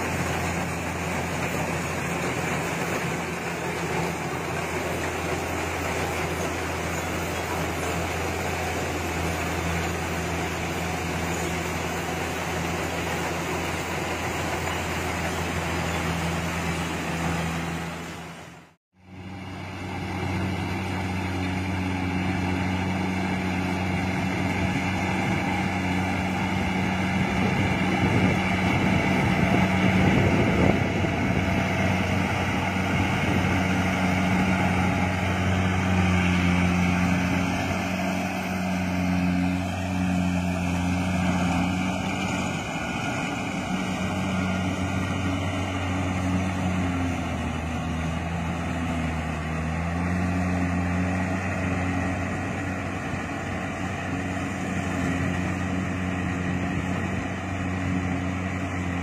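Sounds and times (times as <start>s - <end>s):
combine harvester diesel engine drone: 0.0s - 59.0s.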